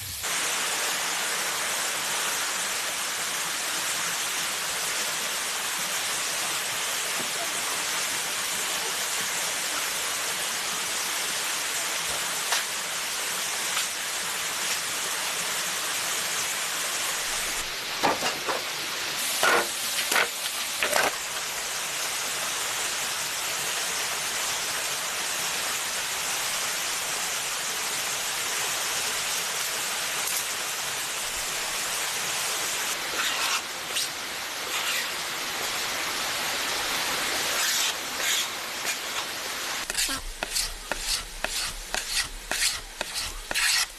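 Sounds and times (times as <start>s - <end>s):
forest creek rushing: 0.2s - 43.9s.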